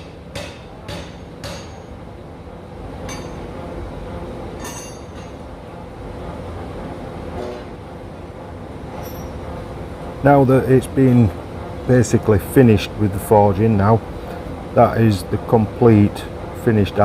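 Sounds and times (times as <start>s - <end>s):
machinery low rumble: 0.0s - 17.0s.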